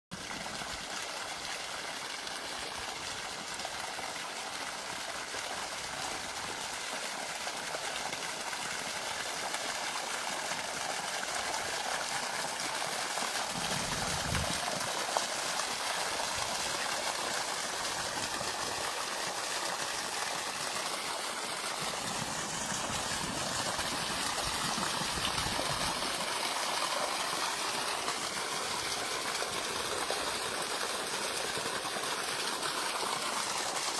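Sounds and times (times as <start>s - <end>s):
flowing water rushing: 0.1s - 33.9s.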